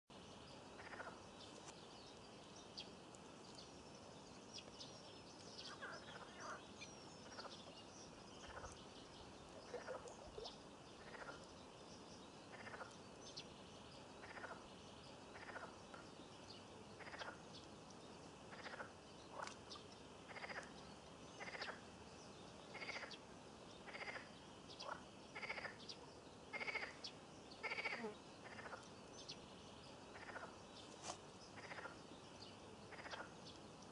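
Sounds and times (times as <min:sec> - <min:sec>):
small birds chirping: 0:00.2 - 0:33.9
frogs croaking: 0:00.6 - 0:01.4, 0:05.3 - 0:30.8, 0:31.4 - 0:33.9.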